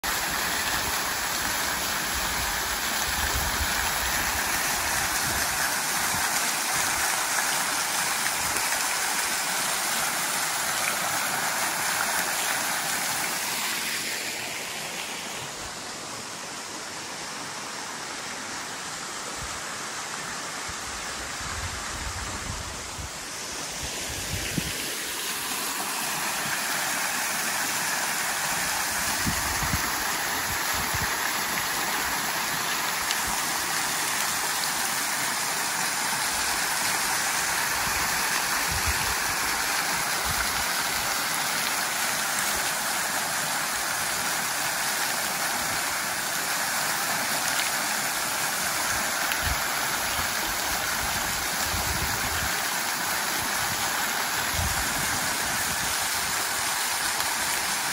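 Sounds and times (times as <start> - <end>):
waterfall splashing into pool: 0.0 - 18.8, 23.1 - 57.9.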